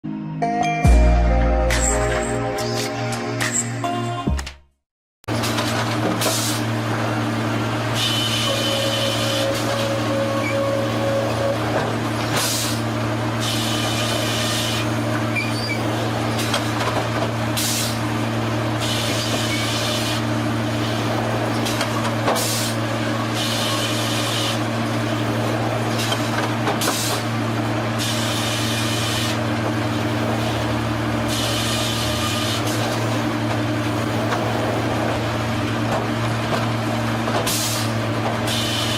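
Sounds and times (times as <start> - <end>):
sawmill machinery humming: 5.6 - 38.9.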